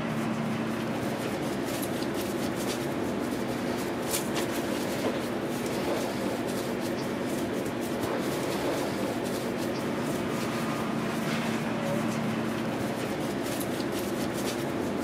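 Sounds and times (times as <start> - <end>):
kitchen background hum: 0.0 - 15.0
hands rubbing and patting dough: 0.6 - 15.0.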